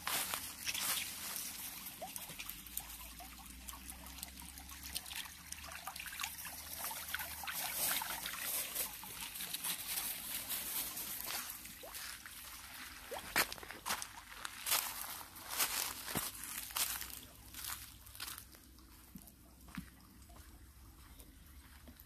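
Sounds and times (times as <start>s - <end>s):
small water splashes: 0.0s - 19.2s
stream trickling over pebbles: 0.0s - 22.0s.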